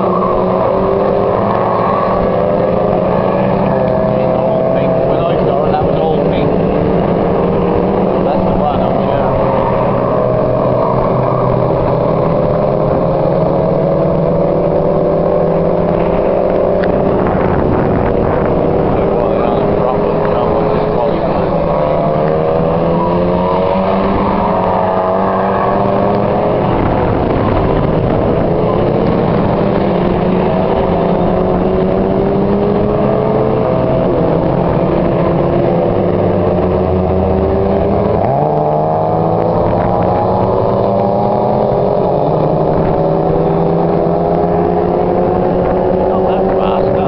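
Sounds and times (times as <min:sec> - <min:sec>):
race car engines accelerating: 0:00.0 - 0:47.0.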